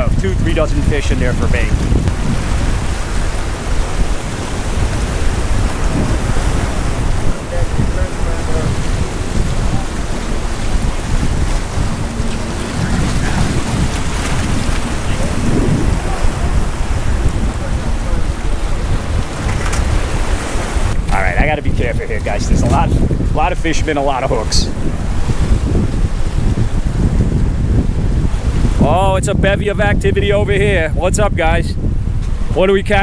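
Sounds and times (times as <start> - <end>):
surf breaking against rocks: 0.0 - 28.8
wind buffeting microphone: 0.0 - 33.0.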